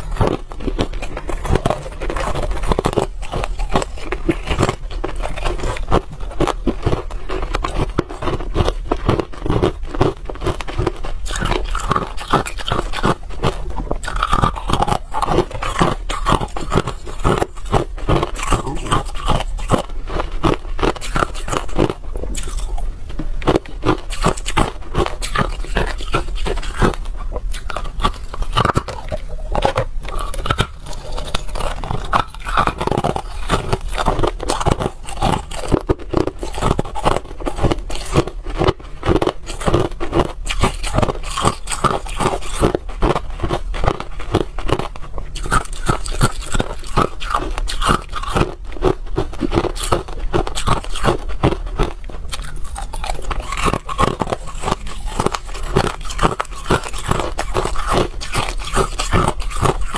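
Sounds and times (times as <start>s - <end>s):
ice crunching between teeth: 0.0s - 59.9s.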